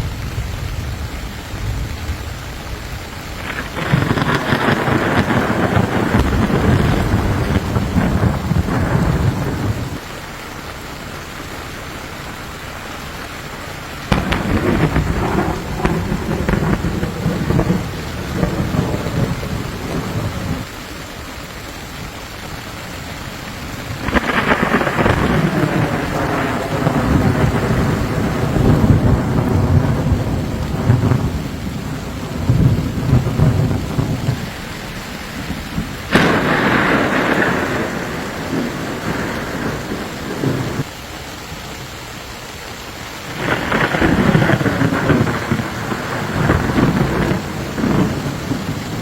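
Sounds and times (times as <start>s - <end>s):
thunder rolling: 0.0s - 10.1s, 13.0s - 20.8s, 23.6s - 40.9s, 43.3s - 49.0s
steady rain: 0.0s - 49.0s.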